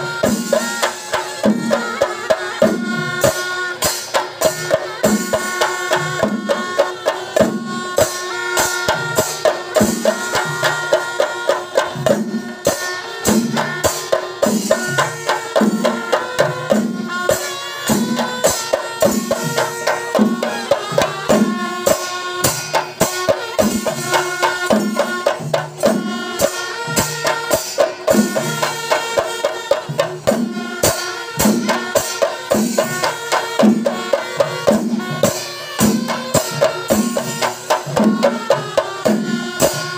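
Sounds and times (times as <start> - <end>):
ensemble of drums beaten with sticks: 0.0 - 39.9.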